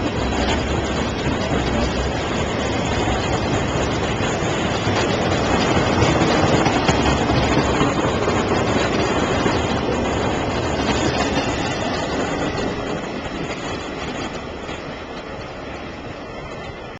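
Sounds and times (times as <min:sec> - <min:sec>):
freight train rolling past: 0:00.0 - 0:16.9.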